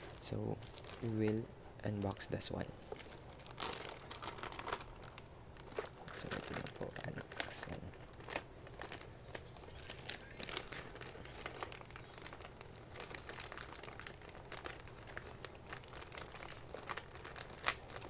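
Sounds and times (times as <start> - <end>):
plastic bag crinkling and tearing: 0.0 - 1.4, 2.8 - 18.0.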